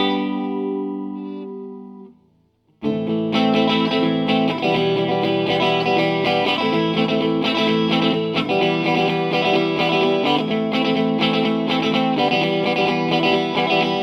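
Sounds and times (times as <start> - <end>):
guitar playing chords and notes: 0.0 - 14.0.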